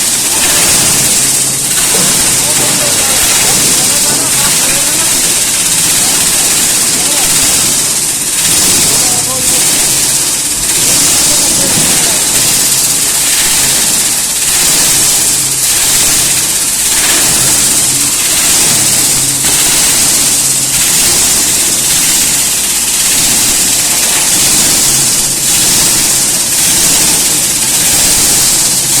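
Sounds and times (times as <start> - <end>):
grinder machine grinding hiss: 0.0 - 29.0
low motor hum: 0.0 - 29.0.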